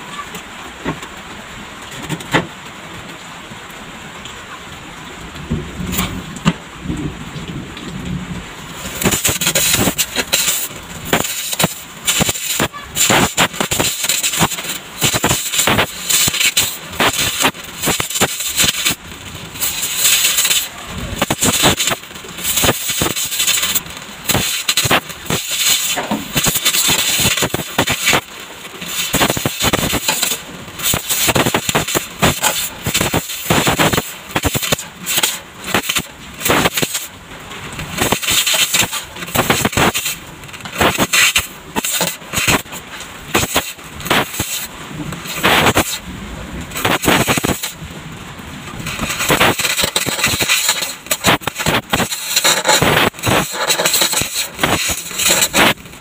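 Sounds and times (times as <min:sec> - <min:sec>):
arc welding crackling: 0:05.2 - 0:56.0.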